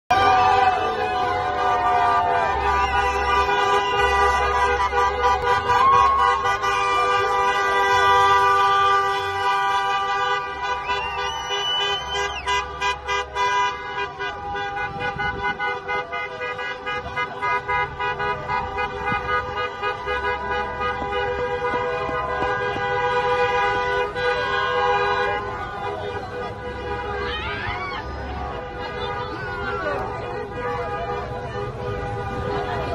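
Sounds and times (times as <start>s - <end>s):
crowd cheering and shouting: 0.1s - 32.9s
car horns held long: 0.2s - 27.6s.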